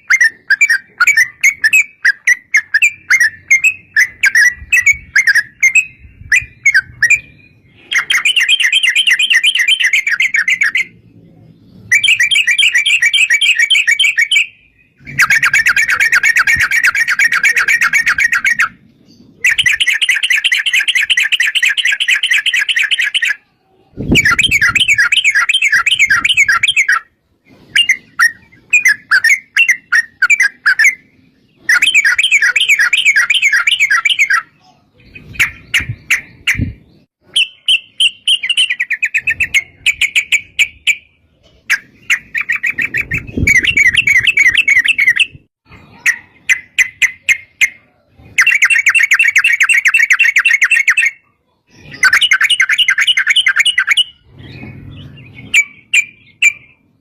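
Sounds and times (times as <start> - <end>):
bird singing rapid chirping phrases: 0.0 - 57.0.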